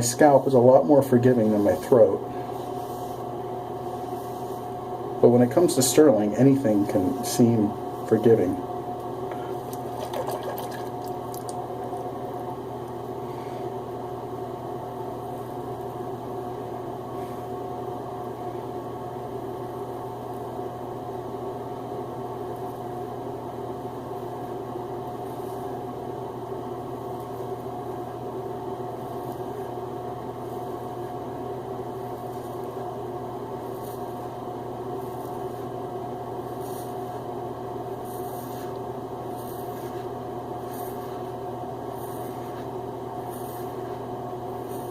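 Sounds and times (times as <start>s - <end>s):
steady machine hum: 0.0s - 44.9s.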